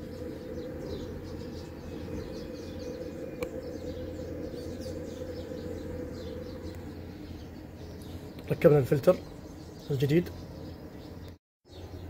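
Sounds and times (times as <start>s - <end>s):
low background hum: 0.0s - 12.0s
small birds chirping: 0.0s - 12.0s.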